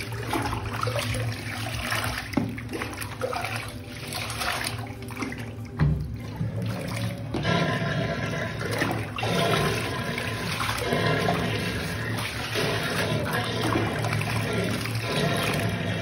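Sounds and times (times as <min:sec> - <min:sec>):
water running into bathtub: 0:00.0 - 0:16.0.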